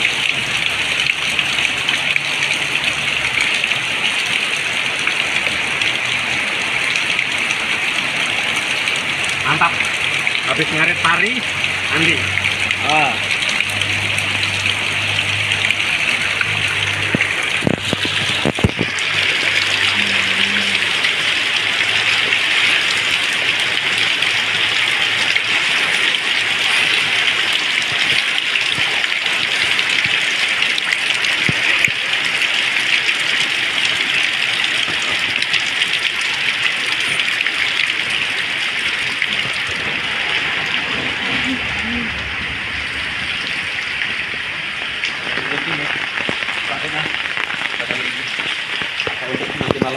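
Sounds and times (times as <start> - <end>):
heavy rain: 0.0 - 49.9
water gushing from roof spout: 0.0 - 49.9.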